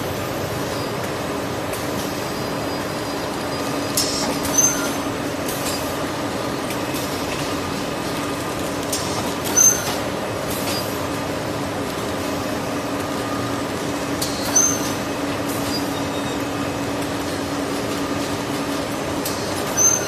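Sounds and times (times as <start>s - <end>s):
packing machine humming: 0.0s - 20.0s.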